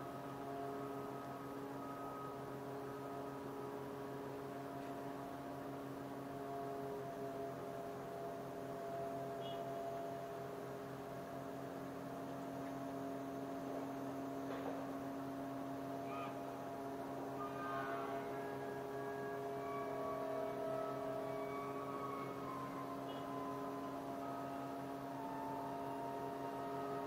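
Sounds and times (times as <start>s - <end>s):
ferry machinery humming: 0.0s - 27.0s.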